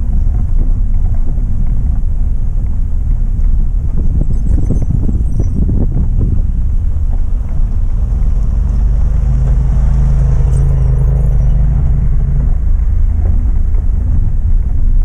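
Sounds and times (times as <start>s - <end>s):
off-road vehicle engine hum: 0.0s - 15.0s
vehicle rumbling on gravel road: 0.0s - 15.0s.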